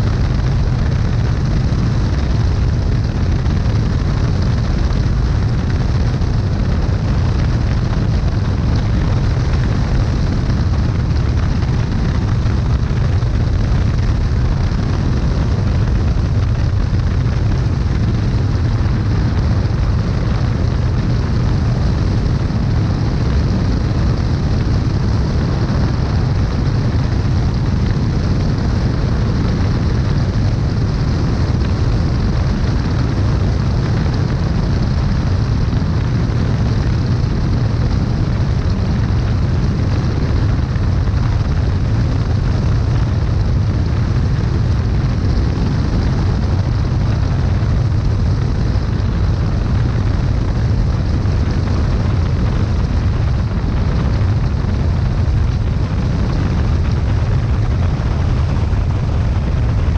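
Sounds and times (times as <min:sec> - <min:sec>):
aircraft engine and propeller: 0:00.0 - 0:59.9
wind buffeting microphone: 0:00.0 - 0:59.9.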